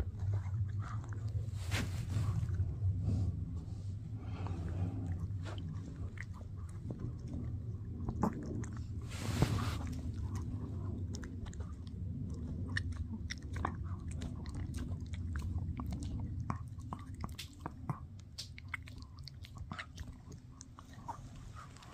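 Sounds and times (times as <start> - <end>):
dog gnawing chew crunching: 0.0 - 2.7, 5.0 - 21.9.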